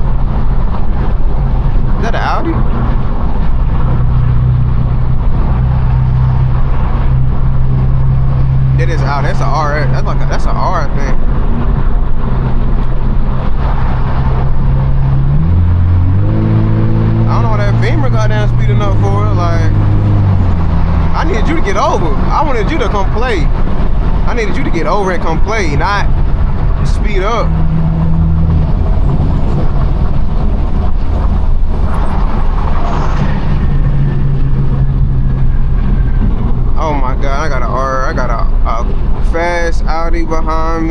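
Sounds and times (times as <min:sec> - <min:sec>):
car exhaust droning: 0:00.0 - 0:40.9
road noise: 0:00.0 - 0:40.9.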